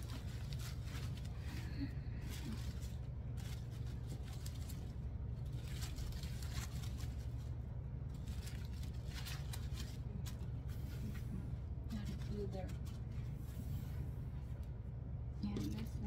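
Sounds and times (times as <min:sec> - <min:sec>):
artificial flower stems rustling: 0:00.0 - 0:16.0
steady low hum: 0:00.0 - 0:16.0.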